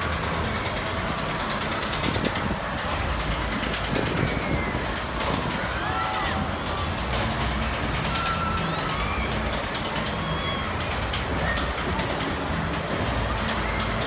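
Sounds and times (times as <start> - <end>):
thrill ride mechanical rumble: 0.0 - 14.0.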